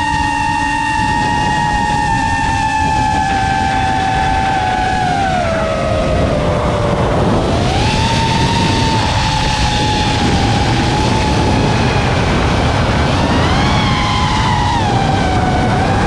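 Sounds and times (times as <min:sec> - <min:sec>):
quadcopter motors whining: 0:00.0 - 0:16.0
rushing air: 0:00.0 - 0:16.0.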